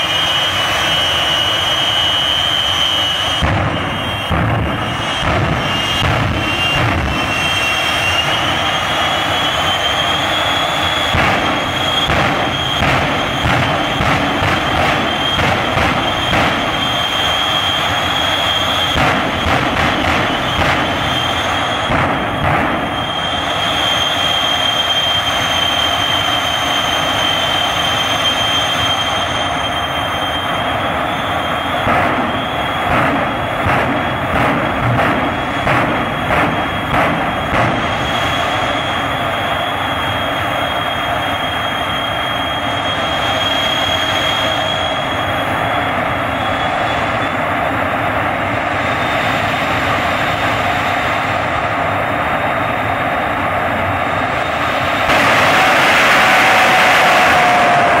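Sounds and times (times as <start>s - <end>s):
high whine: 0.0s - 58.0s
jet engine roaring: 0.0s - 58.0s.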